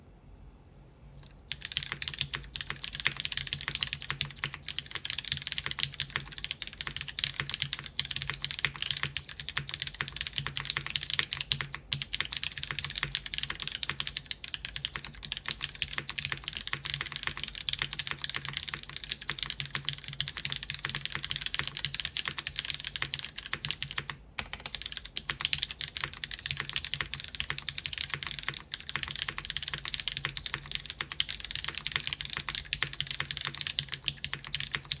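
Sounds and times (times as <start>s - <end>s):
fast typing on mechanical keyboard: 1.2s - 35.0s.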